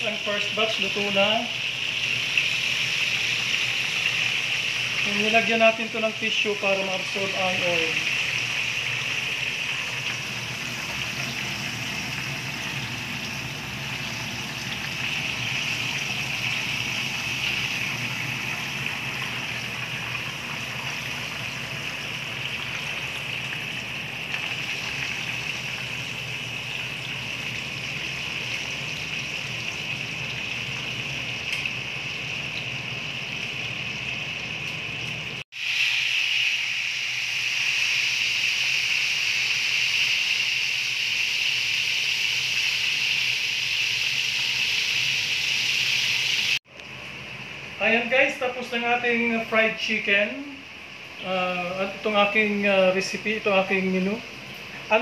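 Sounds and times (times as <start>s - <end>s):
chicken sizzling in hot oil: 0.0s - 46.7s.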